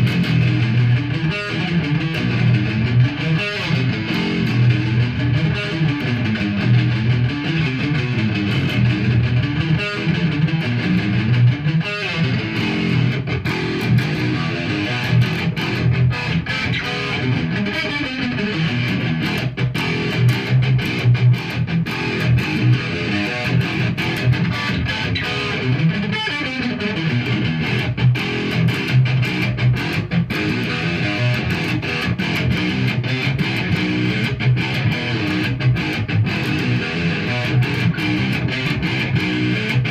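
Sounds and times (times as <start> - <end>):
solo guitar plucking: 0.0 - 39.9.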